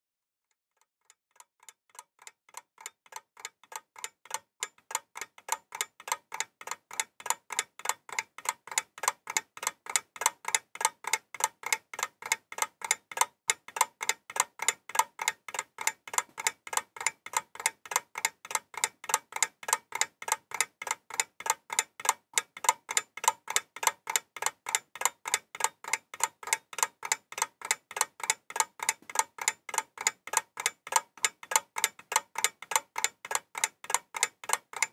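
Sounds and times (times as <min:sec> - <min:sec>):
steady ticking: 0:01.0 - 0:34.9.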